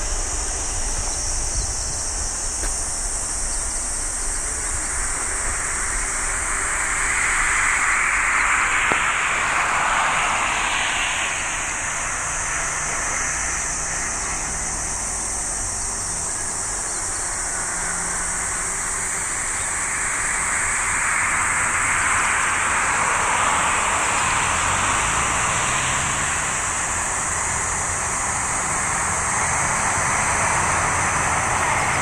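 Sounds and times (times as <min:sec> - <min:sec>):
jet engine roaring: 0:00.0 - 0:32.0.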